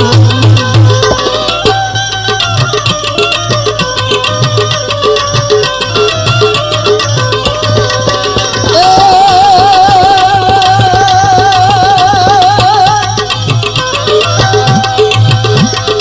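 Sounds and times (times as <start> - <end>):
hand drum beat: 0.0 - 16.0.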